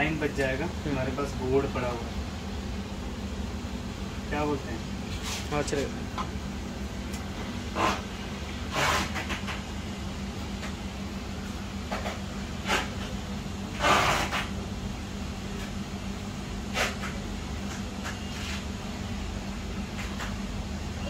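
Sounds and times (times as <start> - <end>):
low hum from bench equipment: 0.0 - 21.0.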